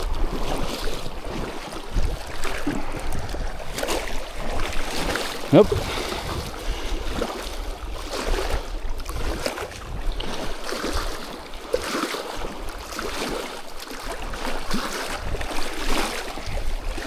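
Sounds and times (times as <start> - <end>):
wind rumbling on microphone: 0.0 - 11.7, 14.0 - 17.0
water splashing and lapping: 0.0 - 17.0.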